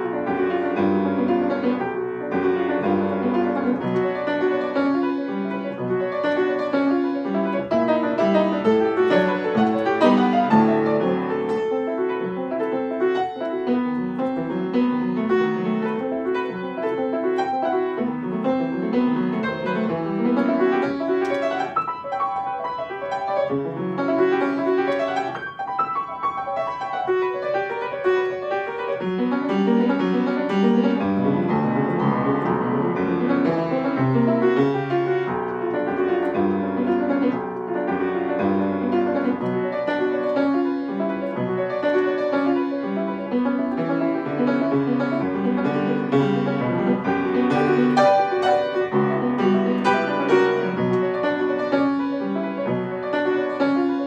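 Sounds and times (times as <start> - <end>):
piano playing: 0.0 - 54.0.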